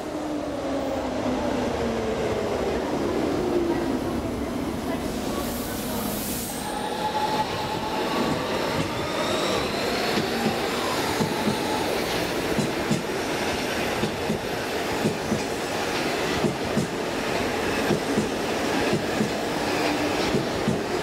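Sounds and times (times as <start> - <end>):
train rolling rumble: 0.6 - 21.0.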